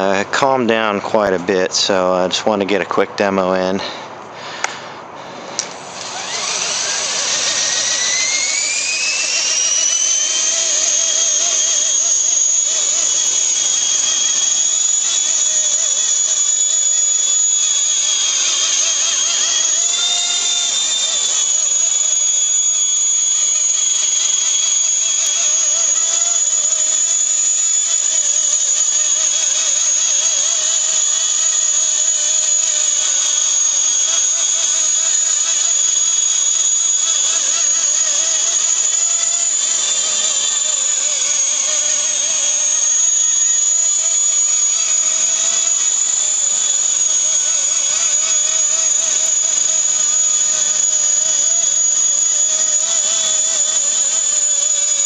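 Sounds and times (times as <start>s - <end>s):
rc helicopter motor whine: 5.6s - 55.0s.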